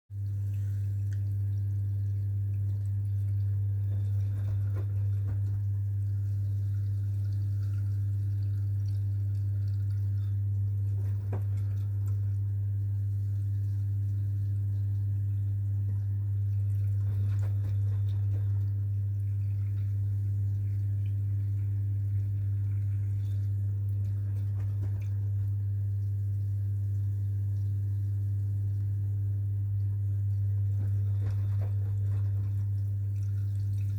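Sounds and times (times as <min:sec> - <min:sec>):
faint water sounds: 0:00.1 - 0:33.9
washing machine humming: 0:00.1 - 0:33.9.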